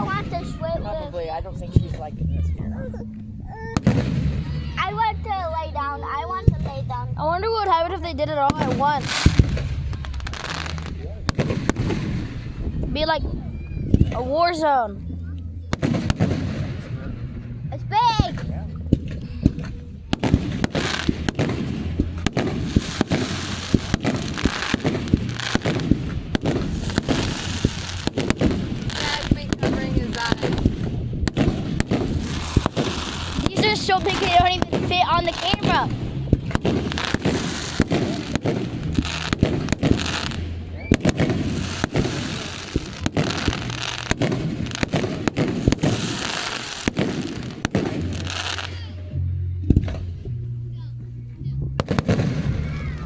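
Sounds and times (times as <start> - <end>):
fireworks bangs: 0.0 - 2.4, 3.1 - 50.6, 51.4 - 53.0
fireworks crackling: 0.0 - 53.0.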